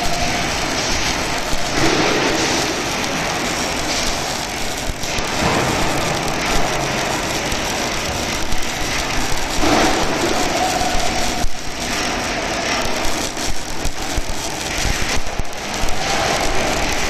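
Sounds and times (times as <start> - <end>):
arc welding crackling hiss: 0.0 - 17.0.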